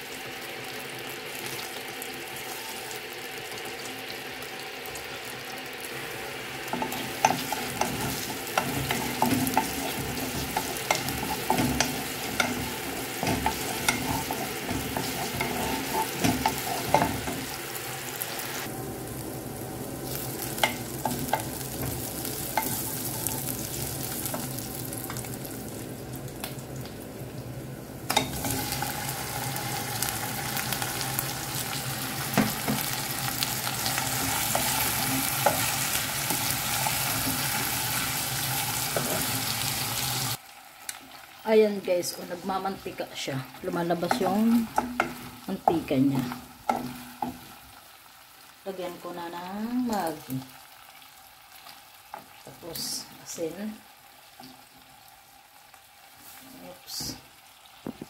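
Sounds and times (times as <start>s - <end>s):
chicken frying: 0.0s - 58.0s
onions sizzling in hot oil: 0.0s - 58.0s.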